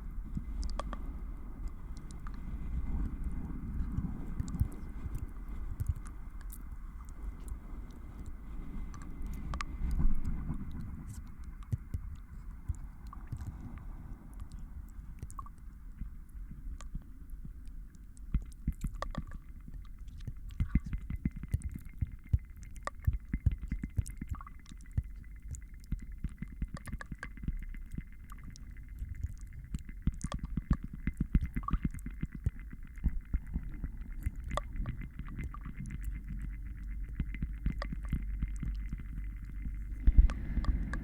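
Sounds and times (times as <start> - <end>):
low rumble: 0.0 - 41.0.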